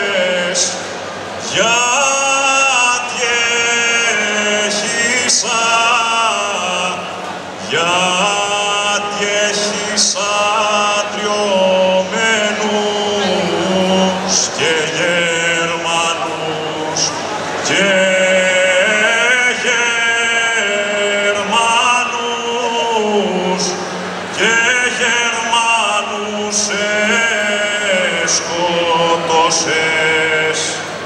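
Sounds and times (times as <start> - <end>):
men singing held notes: 0.0 - 31.0.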